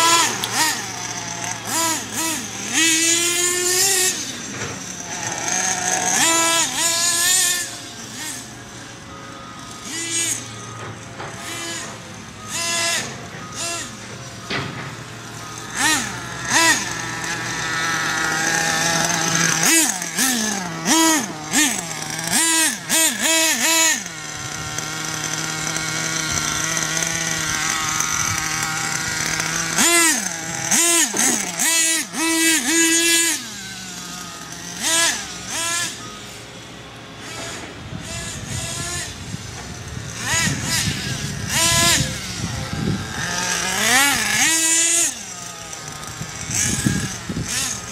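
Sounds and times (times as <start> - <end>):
small engine idling and revving: 0.0 - 47.9.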